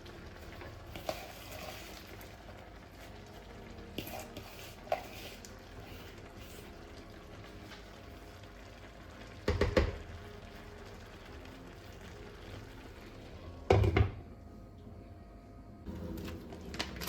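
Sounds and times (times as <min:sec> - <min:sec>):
faint hiss of cooking: 0:00.0 - 0:14.1.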